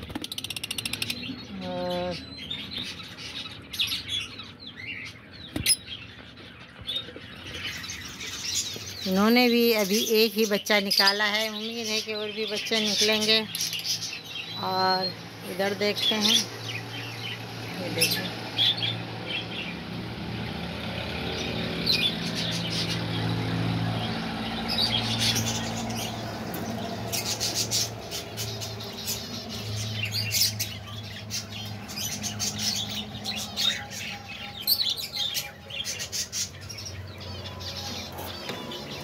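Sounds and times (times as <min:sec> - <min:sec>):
budgerigars chirping: 0:00.0 - 0:39.0.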